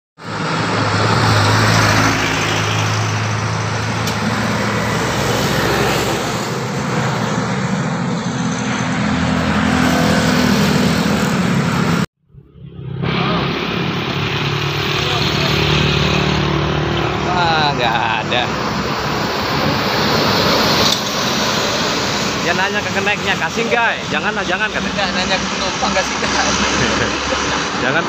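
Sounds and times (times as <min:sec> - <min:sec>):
heavy vehicle engine running: 0:00.2 - 0:28.0
roadside traffic: 0:00.2 - 0:28.0.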